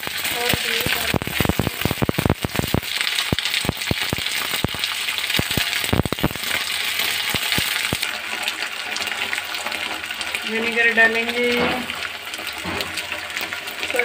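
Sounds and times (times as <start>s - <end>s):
oil crackling and popping: 0.0s - 14.0s
vegetables sizzling in hot oil: 0.0s - 14.0s.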